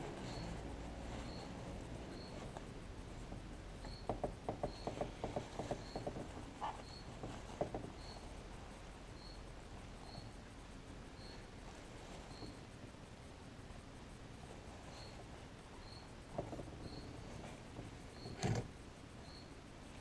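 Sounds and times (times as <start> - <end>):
rustling: 0.0 - 4.0, 4.6 - 20.0.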